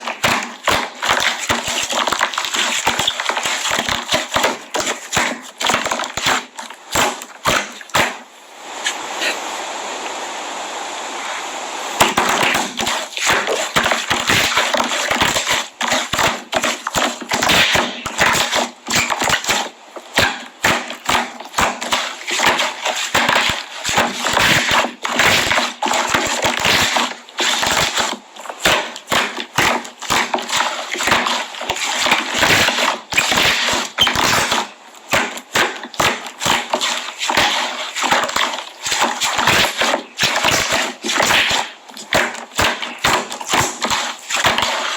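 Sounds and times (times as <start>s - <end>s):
slime squished crackling: 0.0s - 8.2s, 12.0s - 44.9s.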